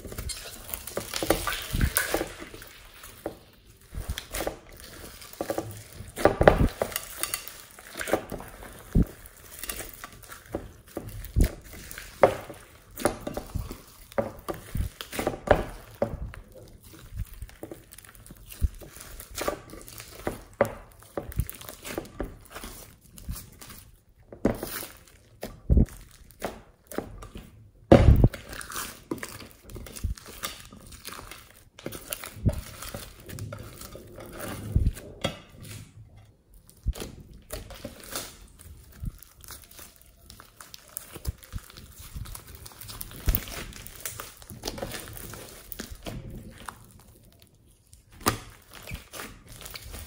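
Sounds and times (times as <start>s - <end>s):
wet slime squelches: 0.0s - 50.0s.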